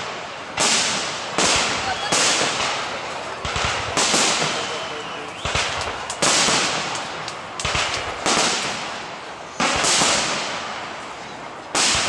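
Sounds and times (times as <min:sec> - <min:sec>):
crackling stars hiss: 0:00.0 - 0:12.0
firework bangs: 0:00.0 - 0:12.0.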